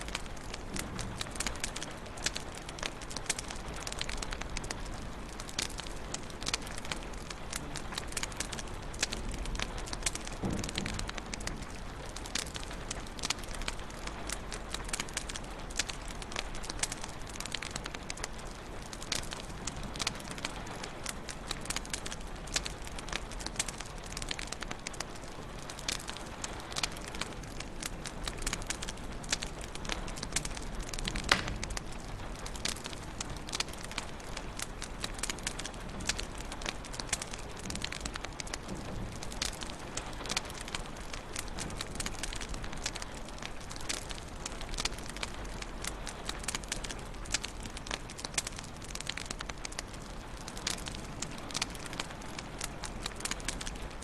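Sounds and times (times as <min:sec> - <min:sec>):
fire flames rushing: 0:00.0 - 0:54.0
wood fire popping and snapping: 0:00.0 - 0:54.0.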